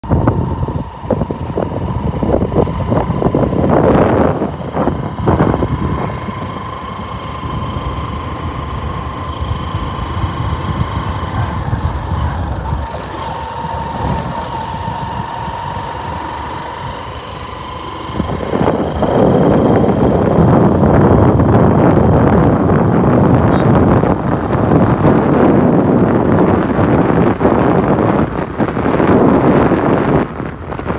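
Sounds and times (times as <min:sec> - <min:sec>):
steady high whine: 0:00.0 - 0:30.9
vehicle engine and road noise: 0:00.0 - 0:30.9.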